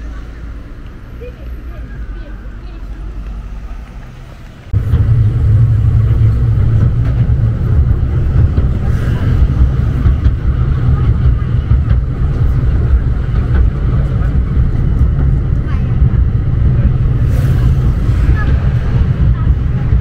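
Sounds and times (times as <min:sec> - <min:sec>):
tram rumbling on track: 0:00.0 - 0:20.0.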